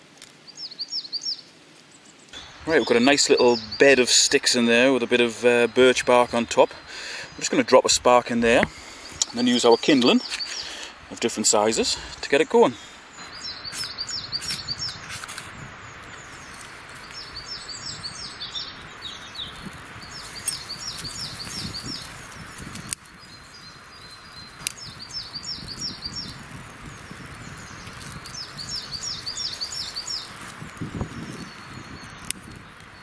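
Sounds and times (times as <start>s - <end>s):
steady hiss: 0.0s - 33.0s
songbird singing: 0.3s - 33.0s.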